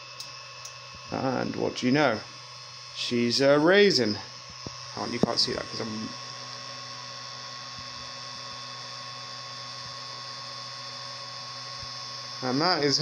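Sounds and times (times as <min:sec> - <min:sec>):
electrical hum: 0:00.0 - 0:13.0
high whine of motors and fans: 0:00.0 - 0:13.0.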